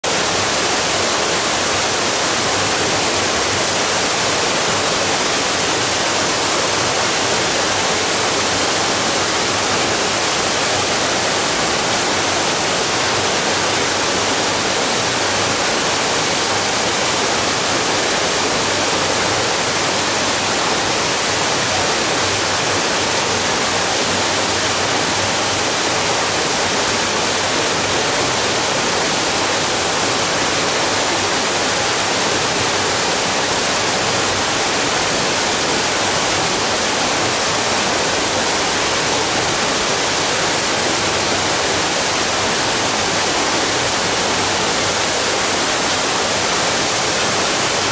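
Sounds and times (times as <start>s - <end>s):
waterfall rushing into pool: 0.0s - 47.9s.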